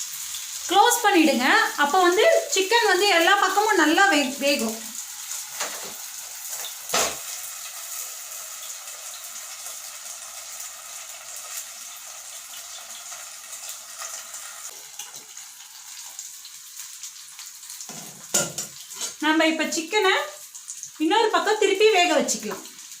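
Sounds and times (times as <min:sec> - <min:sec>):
meat sizzling in oil: 0:00.0 - 0:23.0.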